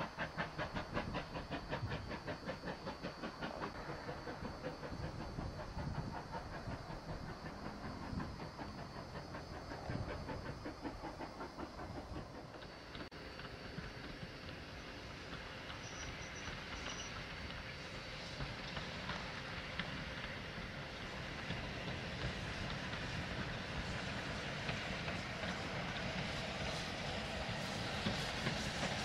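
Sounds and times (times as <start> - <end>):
steam locomotive chuffing: 0.0 - 29.0.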